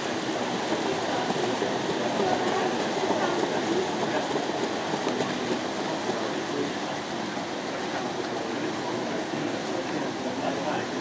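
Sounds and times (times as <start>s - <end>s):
model train rattling on track: 0.0s - 11.0s.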